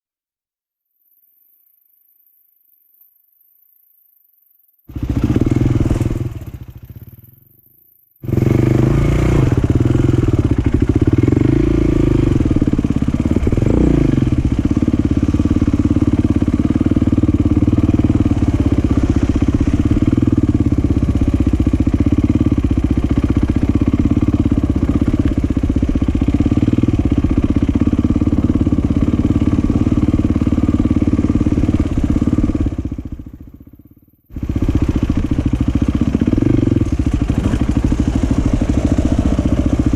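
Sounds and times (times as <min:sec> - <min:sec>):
dirt bike passing by: 0:04.9 - 0:07.4, 0:08.2 - 0:39.9
dirt bike engines running: 0:04.9 - 0:07.5, 0:08.2 - 0:39.9.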